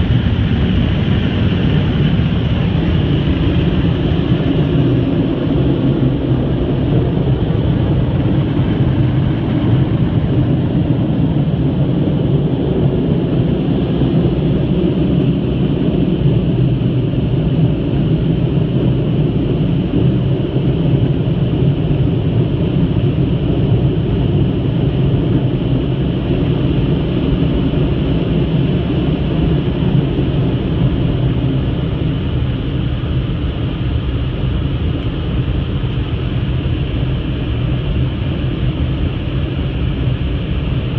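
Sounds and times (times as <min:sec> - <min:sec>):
car wash blowers roaring: 0:00.0 - 0:40.9.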